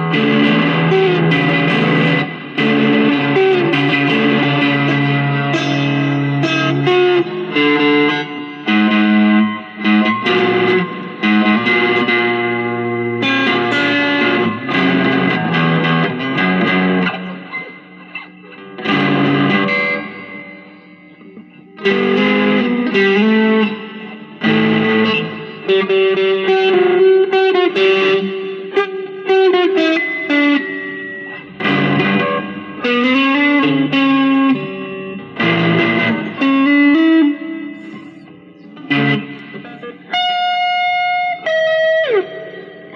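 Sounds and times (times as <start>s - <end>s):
electric guitar through amp: 0.0s - 42.9s.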